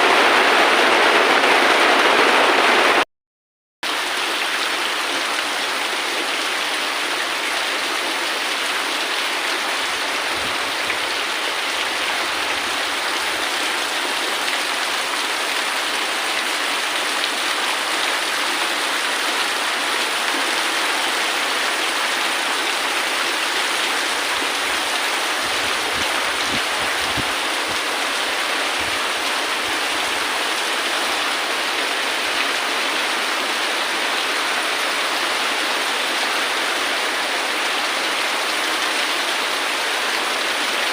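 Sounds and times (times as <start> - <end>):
heavy rain falling: 0.0 - 3.0, 3.9 - 40.9.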